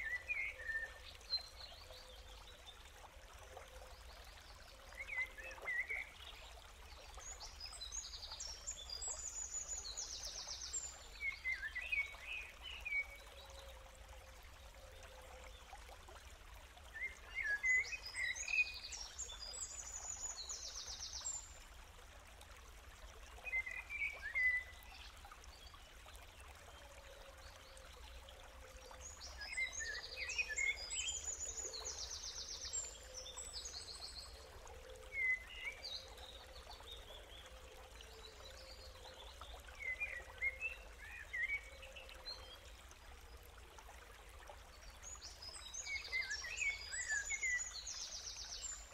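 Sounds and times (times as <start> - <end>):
running water: 0.0 - 48.9.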